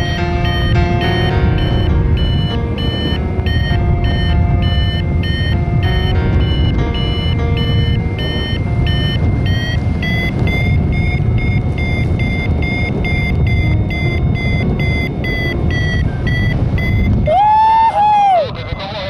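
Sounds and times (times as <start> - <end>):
tone sliding up and down: 0.0 - 17.4
variometer beeping rapidly: 0.0 - 17.5
wind on microphone: 0.0 - 19.0.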